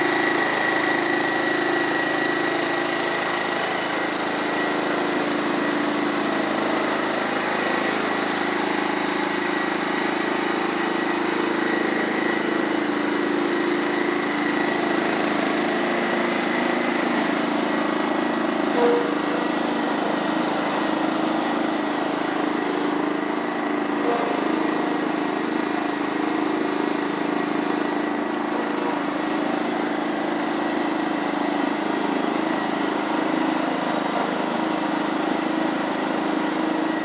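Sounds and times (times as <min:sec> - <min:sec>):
lawn tractor engine running: 0:00.0 - 0:37.0.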